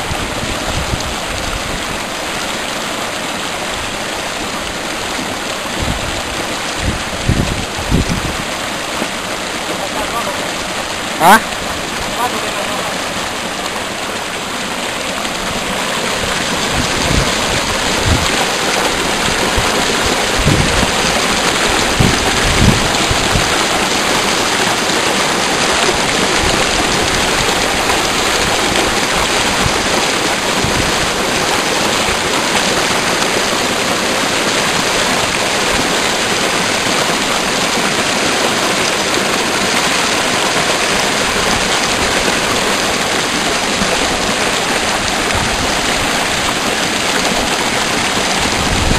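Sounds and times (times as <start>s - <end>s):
fast-flowing water rushing: 0.0s - 48.9s.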